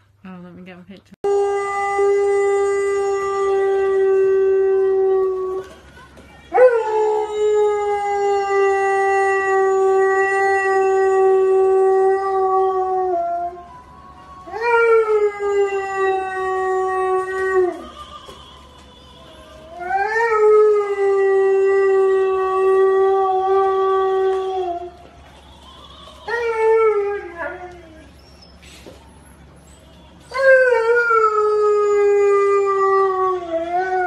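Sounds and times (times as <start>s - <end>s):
husky howling: 1.3s - 5.7s, 6.5s - 18.0s, 19.7s - 25.0s, 26.0s - 28.6s, 29.7s - 34.0s.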